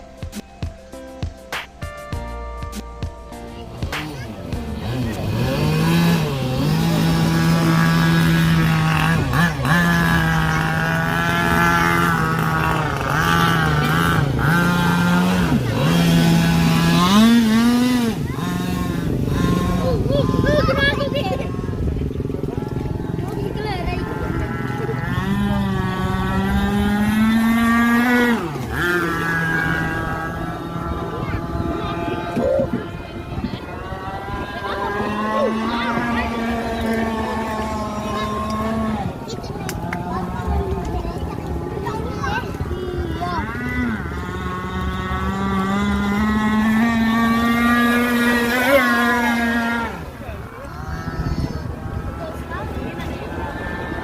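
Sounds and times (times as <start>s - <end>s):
two-stroke boat engine revving: 0.0s - 54.0s.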